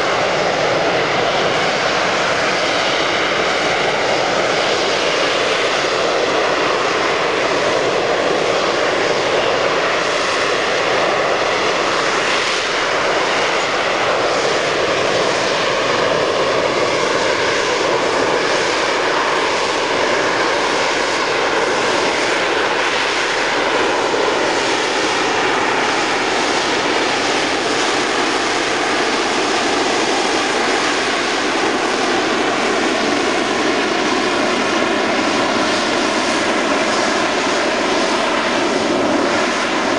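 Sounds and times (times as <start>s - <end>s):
jet engine roar with whining tones: 0.0s - 39.9s.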